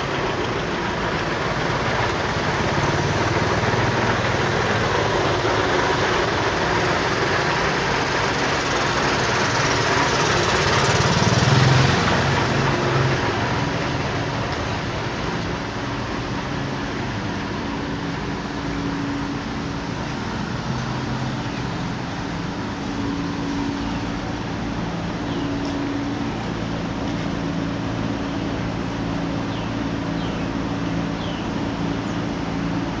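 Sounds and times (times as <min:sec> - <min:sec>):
truck and car engines idling: 0:00.0 - 0:33.0.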